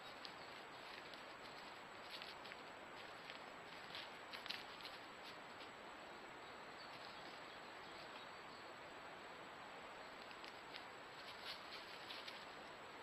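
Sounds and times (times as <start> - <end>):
faint ticks and rustles: 0.0 - 13.0
microphone hiss: 0.0 - 13.0.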